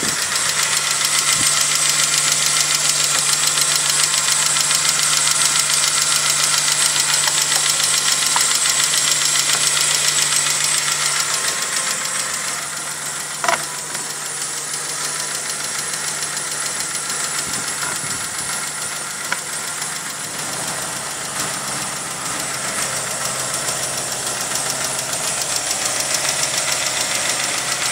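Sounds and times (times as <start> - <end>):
car engine idling with ticking: 0.0 - 27.9.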